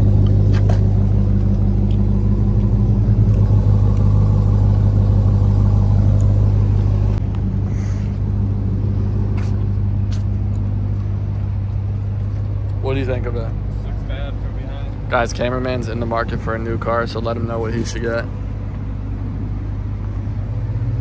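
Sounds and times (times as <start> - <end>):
vehicle engine running at low revs: 0.0 - 21.0.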